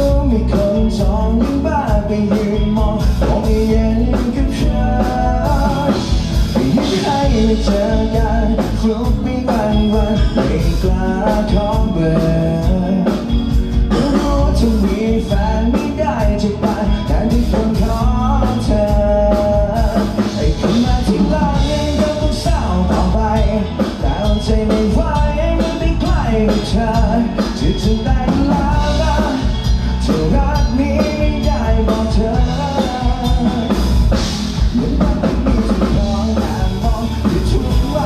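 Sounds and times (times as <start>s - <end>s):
drum beat: 0.0s - 38.0s
live band playing: 0.0s - 38.0s.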